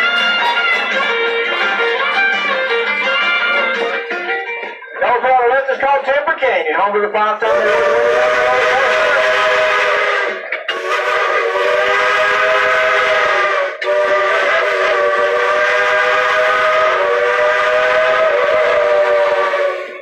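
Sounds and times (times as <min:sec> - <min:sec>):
steam whistle blasts: 0:00.0 - 0:03.9, 0:07.5 - 0:20.0.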